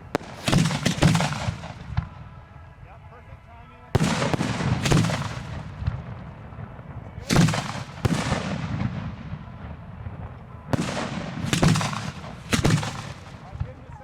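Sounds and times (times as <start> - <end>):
fireworks bangs with rumbling echo: 0.0 - 2.3, 3.9 - 14.0.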